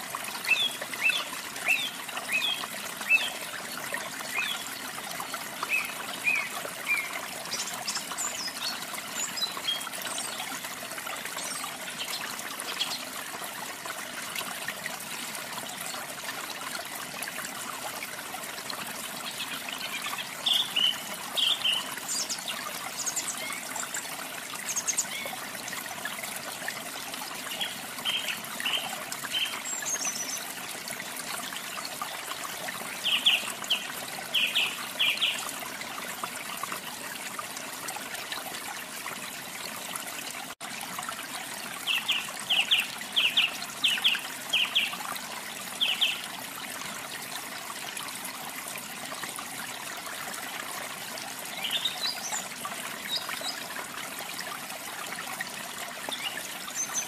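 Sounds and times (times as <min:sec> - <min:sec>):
trickling running water: 0:00.0 - 0:57.0.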